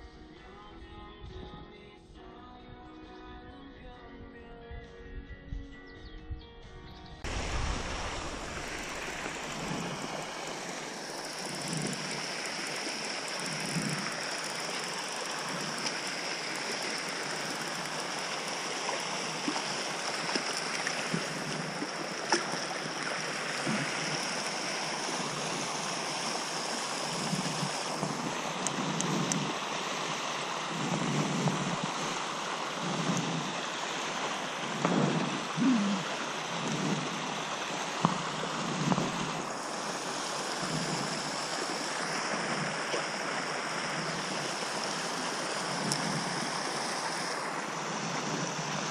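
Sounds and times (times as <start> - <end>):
water jet spraying: 7.3 - 48.8.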